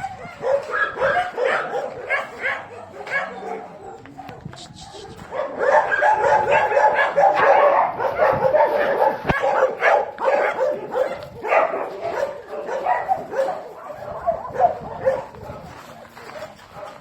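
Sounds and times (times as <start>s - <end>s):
dogs barking and yipping: 0.0s - 17.0s.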